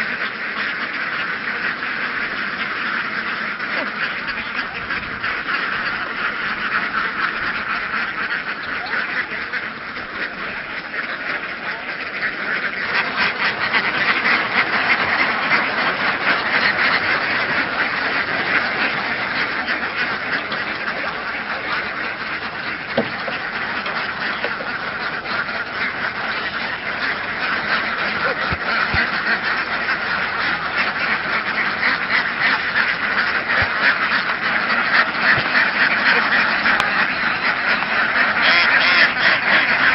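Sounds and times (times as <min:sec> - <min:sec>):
flock of ducks quacking: 0:00.0 - 0:39.9.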